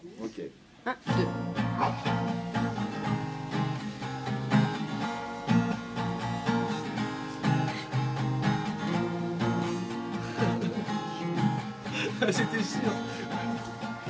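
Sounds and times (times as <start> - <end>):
acoustic guitars strummed: 1.0 - 14.0.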